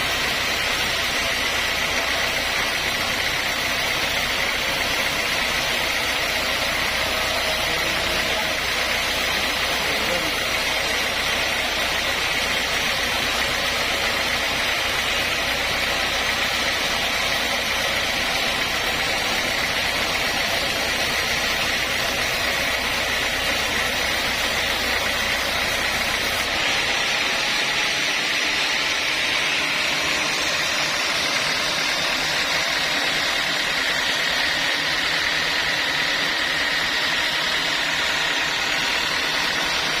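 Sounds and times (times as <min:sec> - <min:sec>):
saw high whine: 0:00.0 - 0:40.0.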